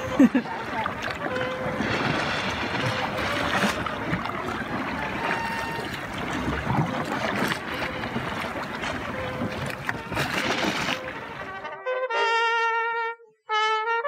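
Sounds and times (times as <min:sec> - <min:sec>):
wind noise: 0:00.0 - 0:11.6
water rushing: 0:00.0 - 0:11.8
paddles splashing in water: 0:00.0 - 0:11.9.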